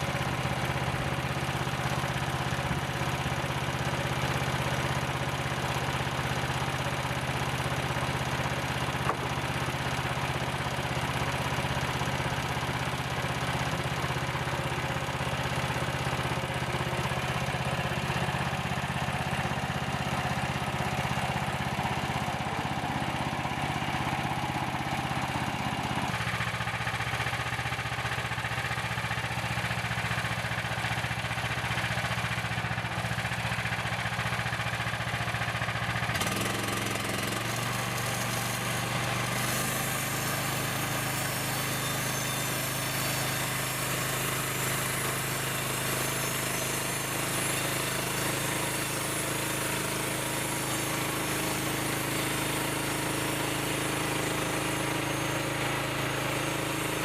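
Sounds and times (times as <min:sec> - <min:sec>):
sawmill gasoline engine running: 0:00.0 - 0:57.0.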